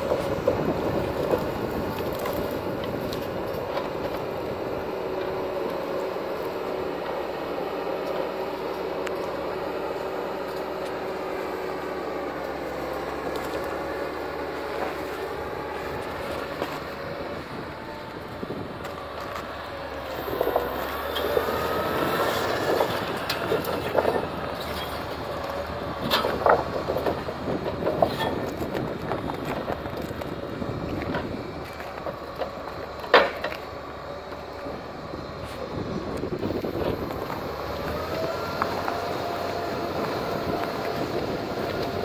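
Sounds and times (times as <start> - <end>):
forwarder machine running with whine: 0.0 - 42.0.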